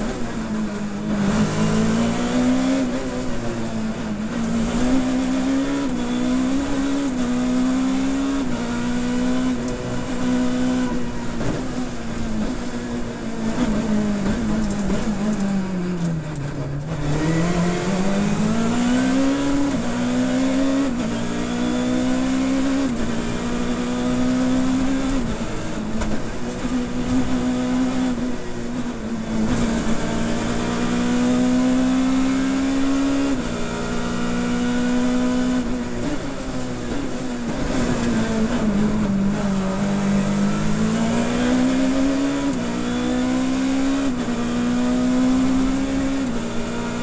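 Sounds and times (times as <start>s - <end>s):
rally car engine accelerating: 0.0s - 47.0s.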